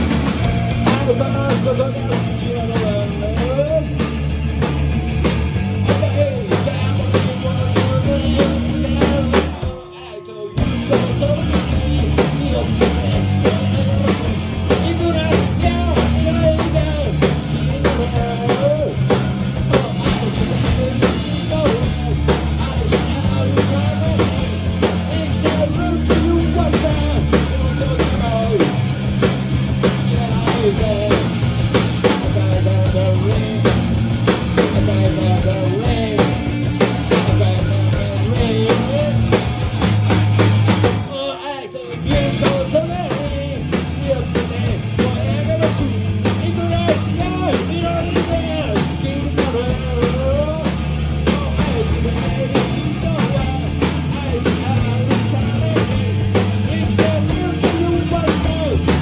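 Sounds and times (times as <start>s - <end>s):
man singing: 0.0s - 4.1s, 5.7s - 59.0s
electric bass: 0.0s - 9.9s, 10.6s - 41.2s, 41.8s - 59.0s
drum kit: 0.0s - 59.0s
electric guitar: 0.0s - 59.0s.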